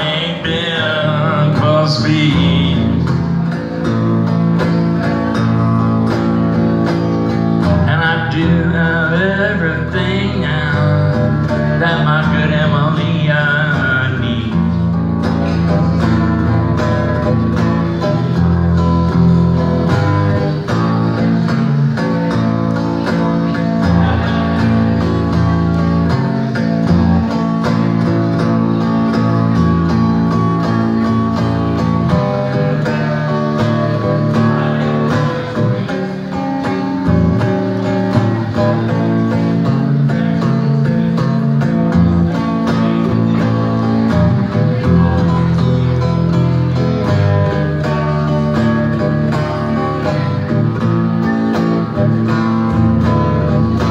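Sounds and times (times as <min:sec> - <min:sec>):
bass guitar: 0:00.0 - 0:53.9
electric guitar blues: 0:00.0 - 0:53.9.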